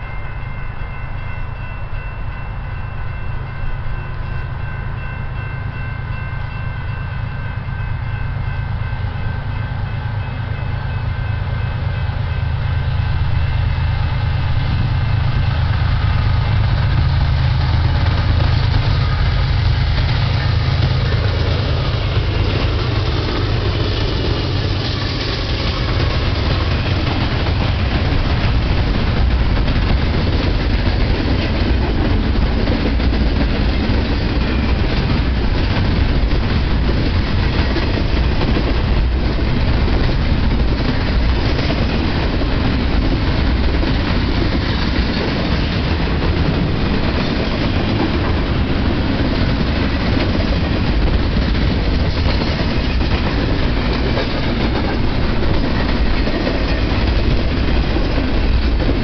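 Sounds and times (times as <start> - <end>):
diesel locomotive rumble: 0.0 - 59.0
train wheels rolling on rail: 0.0 - 59.0.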